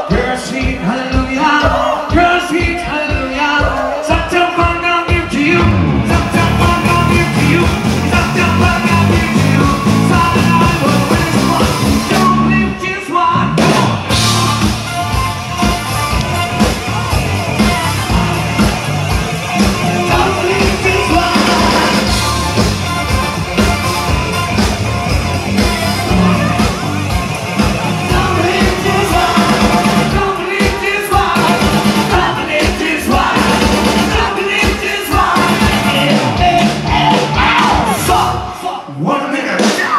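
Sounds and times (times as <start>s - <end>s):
man singing lead vocals: 0.0s - 14.7s, 16.2s - 39.9s
drums: 0.0s - 39.9s
electric guitar: 5.1s - 38.6s.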